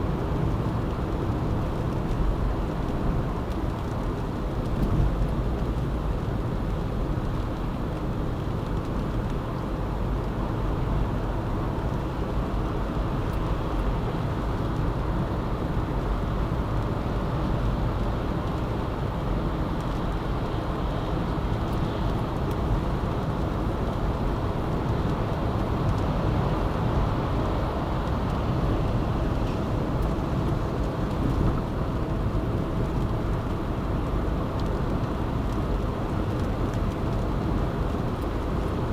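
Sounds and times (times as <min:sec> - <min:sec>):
road and tyre noise: 0:00.0 - 0:38.9.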